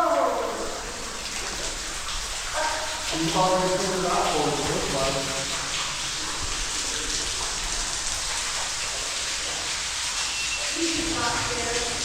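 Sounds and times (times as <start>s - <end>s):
water splashing in a cave: 0.0s - 12.0s.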